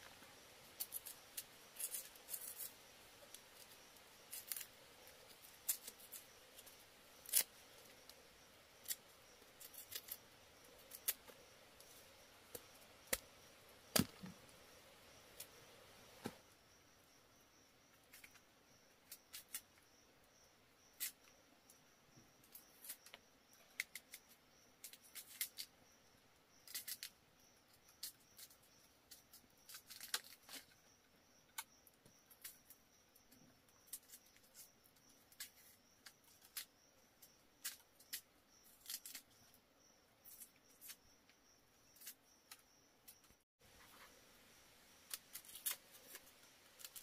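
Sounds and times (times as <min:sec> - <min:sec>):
faint high-pitched whine: 0:00.0 - 0:47.0.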